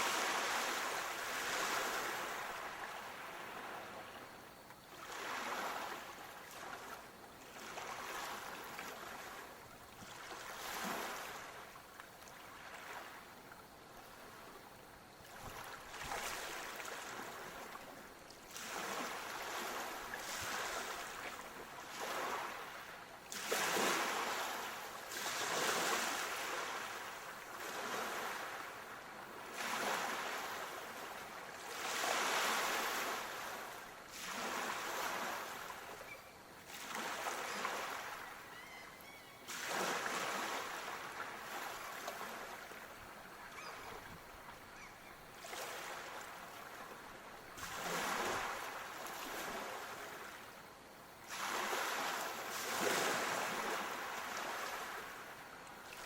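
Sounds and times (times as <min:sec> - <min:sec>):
small waves breaking: 0:00.0 - 0:56.0.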